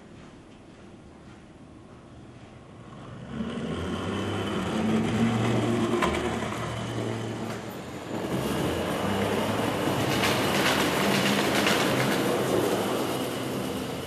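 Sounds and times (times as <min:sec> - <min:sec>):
wheels rolling on rails: 0:02.3 - 0:14.0.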